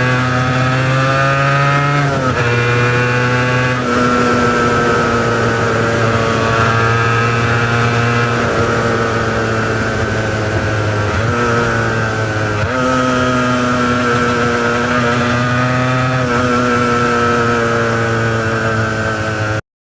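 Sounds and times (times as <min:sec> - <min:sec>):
two-stroke motorcycle engine running: 0:00.0 - 0:19.6.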